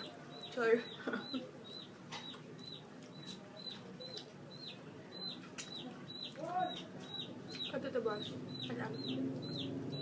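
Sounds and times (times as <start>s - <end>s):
baby chicks peeping: 0.0s - 10.0s.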